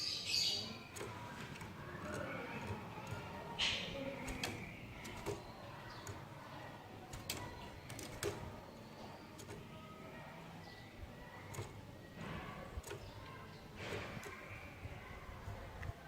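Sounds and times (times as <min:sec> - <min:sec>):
songbird clicking chip notes: 0:00.5 - 0:09.9, 0:10.6 - 0:12.1, 0:12.8 - 0:14.9.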